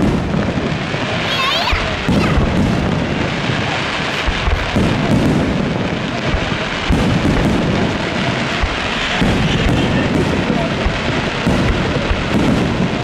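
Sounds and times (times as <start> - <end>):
fireworks booms: 0.0 - 13.0
fireworks crackling: 0.0 - 13.0.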